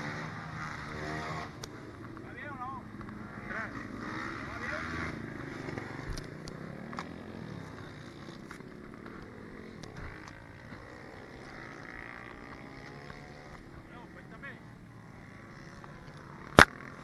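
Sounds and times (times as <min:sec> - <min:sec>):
pit bike engines revving: 0:00.0 - 0:17.0.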